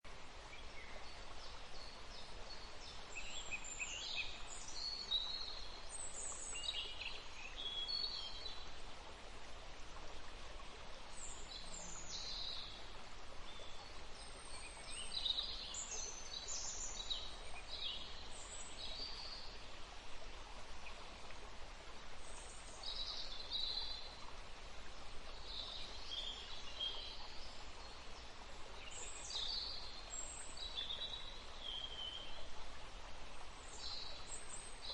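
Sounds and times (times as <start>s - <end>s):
steady background hiss: 0.1s - 34.9s.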